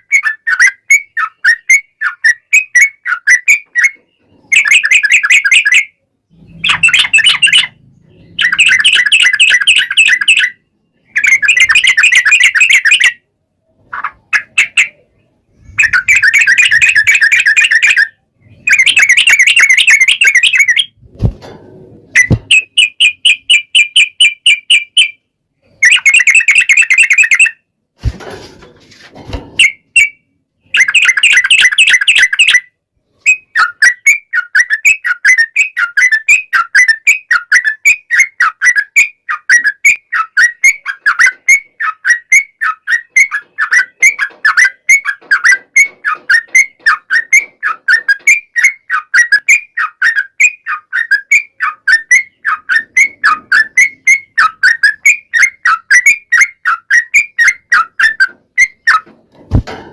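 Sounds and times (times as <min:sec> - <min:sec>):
bulbul singing: 0:00.0 - 0:21.0, 0:22.1 - 0:27.6, 0:29.6 - 0:59.7.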